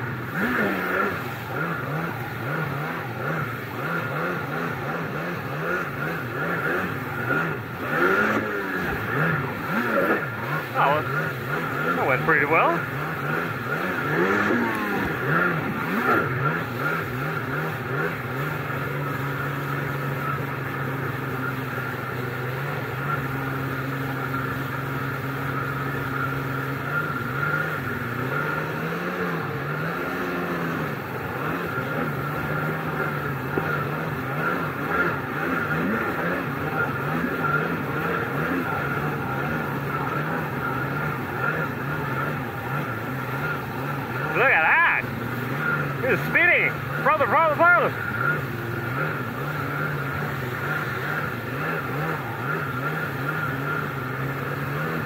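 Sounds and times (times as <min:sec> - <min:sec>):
jet ski engine running: 0:00.0 - 0:55.0
wind: 0:00.0 - 0:55.0.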